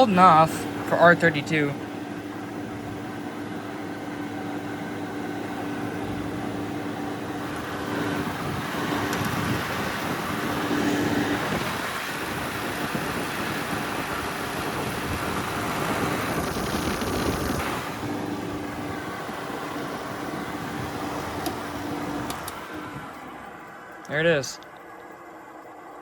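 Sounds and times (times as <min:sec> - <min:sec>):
air conditioner fan rushing: 0:00.0 - 0:26.0
air conditioner low hum: 0:00.0 - 0:26.0.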